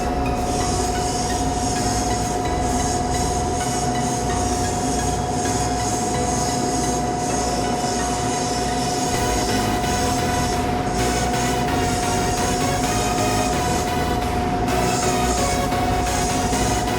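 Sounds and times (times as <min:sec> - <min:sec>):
compressor whine: 0:00.0 - 0:16.9.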